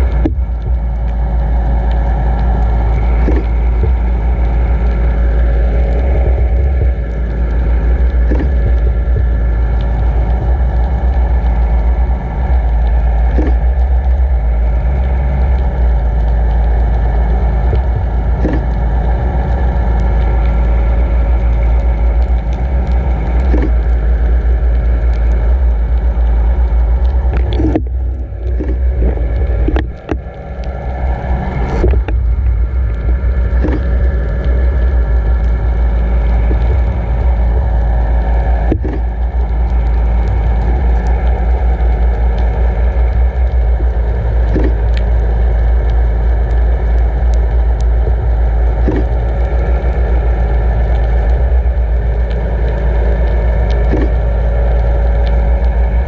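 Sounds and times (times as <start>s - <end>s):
boat engine hum: 0.0s - 56.0s
underwater rush of water: 0.0s - 56.0s.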